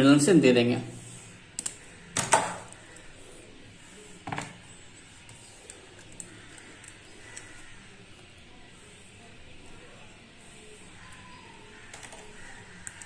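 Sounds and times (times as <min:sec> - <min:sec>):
wire rustling against plastic: 0:01.0 - 0:13.0.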